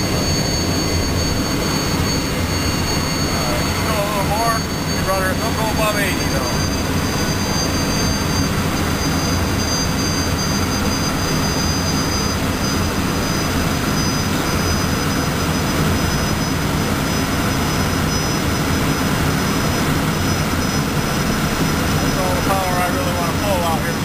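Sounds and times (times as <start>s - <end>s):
jet engine roar with whine: 0.0s - 24.0s.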